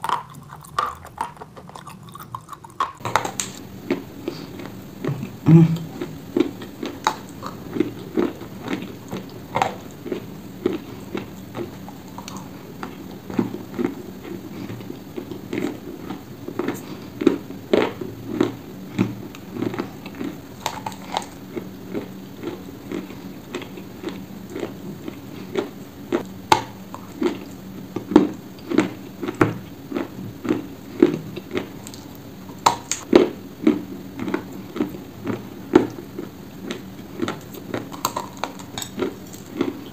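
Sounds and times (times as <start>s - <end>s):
chewing crunchy clay: 0.0s - 39.9s.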